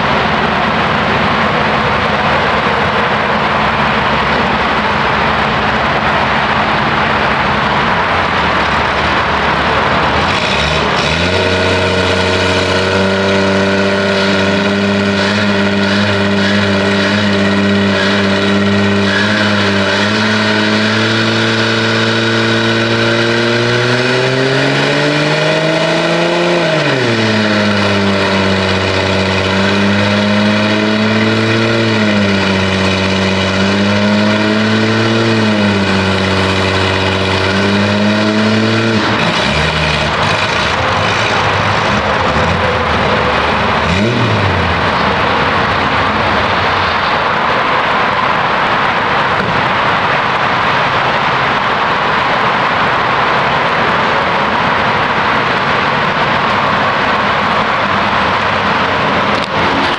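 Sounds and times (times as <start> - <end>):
car engine running and revving: 0.0 - 59.9
rushing noise: 0.0 - 59.9.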